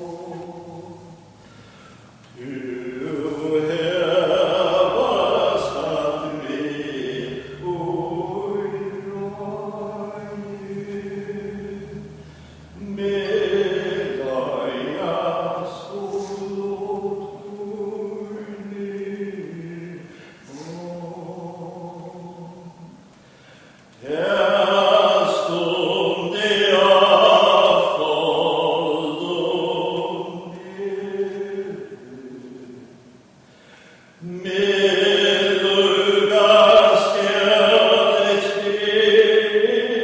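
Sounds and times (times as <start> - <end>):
choir singing a cappella: 0.0 - 1.4, 2.4 - 23.1, 24.0 - 33.0, 34.2 - 40.0.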